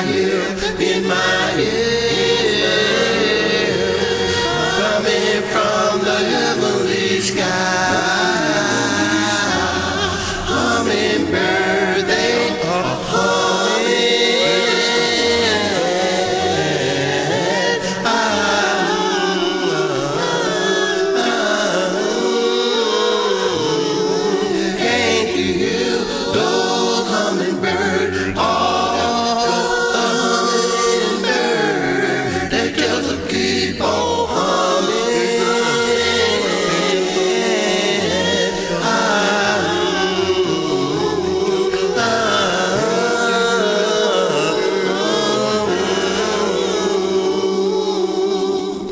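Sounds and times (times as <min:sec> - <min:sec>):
voices singing in harmony: 0:00.0 - 0:48.9.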